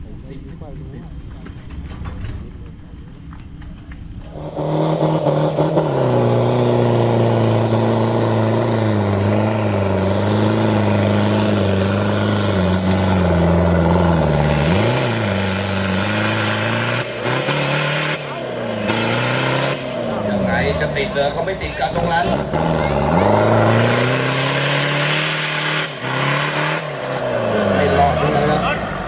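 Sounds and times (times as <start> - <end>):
diesel engine working under load: 0.0 - 29.0.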